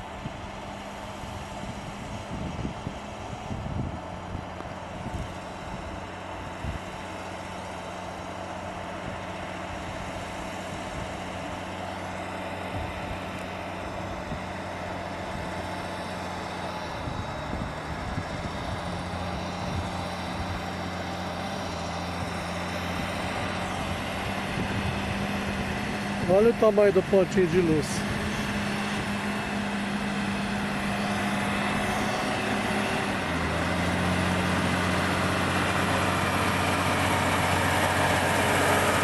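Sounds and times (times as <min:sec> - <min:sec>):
road noise: 0:00.0 - 0:39.0
truck engine running: 0:00.0 - 0:39.0.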